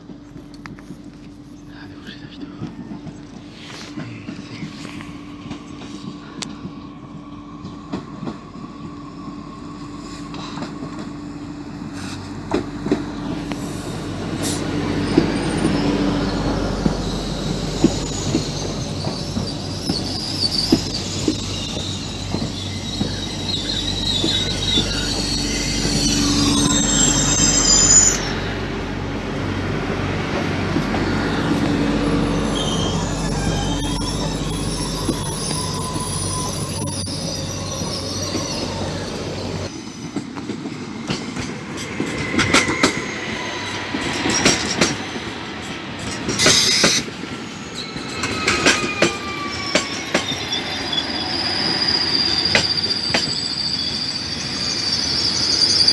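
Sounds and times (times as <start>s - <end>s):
train rumble: 0.0s - 54.1s
high squeal from train: 0.0s - 55.9s.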